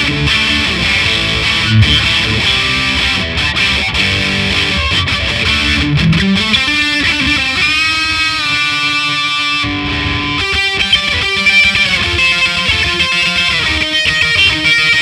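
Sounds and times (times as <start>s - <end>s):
distorted electric guitar lead: 0.0s - 15.0s.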